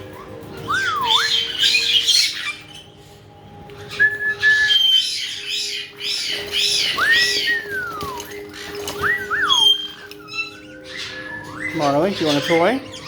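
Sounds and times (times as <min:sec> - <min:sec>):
parrots chirping and squawking: 0:00.0 - 0:13.0
whistled notes: 0:00.6 - 0:02.9, 0:03.7 - 0:13.0.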